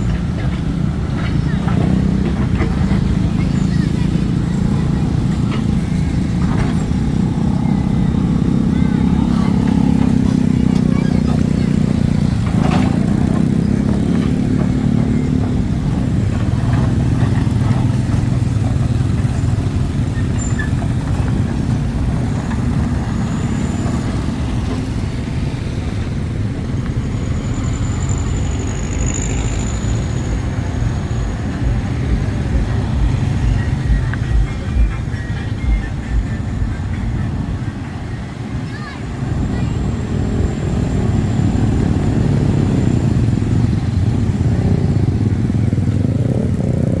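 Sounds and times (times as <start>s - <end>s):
heavy engines droning: 0.0s - 47.0s.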